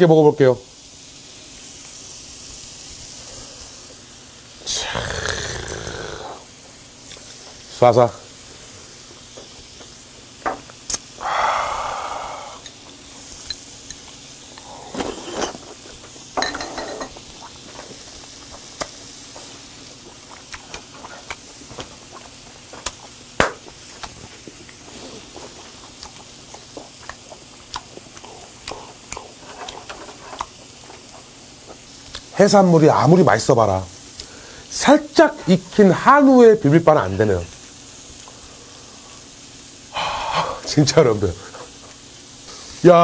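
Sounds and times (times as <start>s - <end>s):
breathy hiss: 0.0s - 43.0s
meat sizzling on grill: 0.0s - 43.0s.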